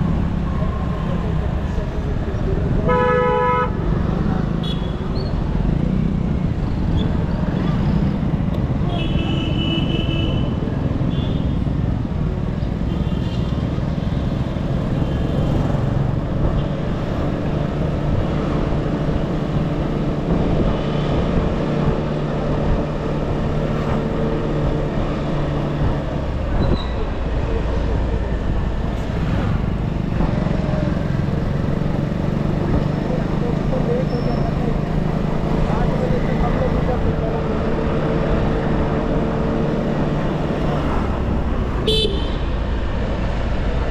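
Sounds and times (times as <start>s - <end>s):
road and traffic noise: 0.0s - 43.9s.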